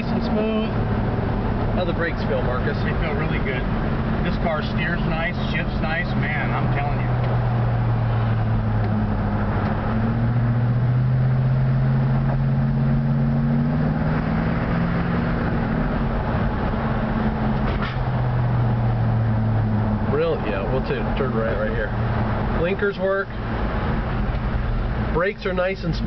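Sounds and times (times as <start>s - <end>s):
car engine droning: 0.0s - 26.0s
road noise: 0.0s - 26.0s.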